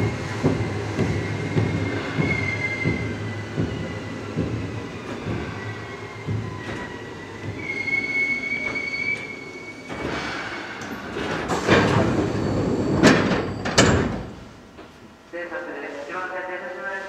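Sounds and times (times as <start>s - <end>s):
electric train whine: 0.0s - 16.9s.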